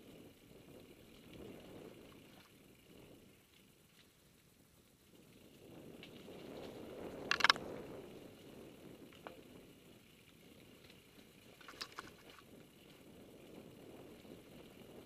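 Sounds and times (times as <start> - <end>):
bike rattles and clicks: 0.0 - 15.0
bike tyres rumbling on dirt: 0.0 - 15.0.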